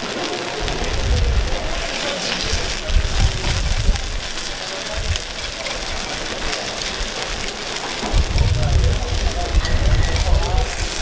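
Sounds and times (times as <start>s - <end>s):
batter sizzling in a grill pan: 0.0s - 11.0s.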